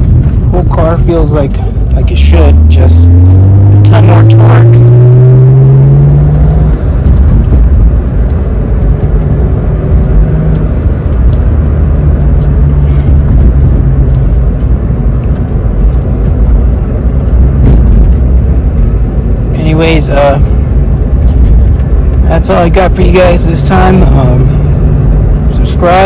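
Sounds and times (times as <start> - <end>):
car engine accelerating: 0.0 - 26.0
road rumble: 0.0 - 26.0.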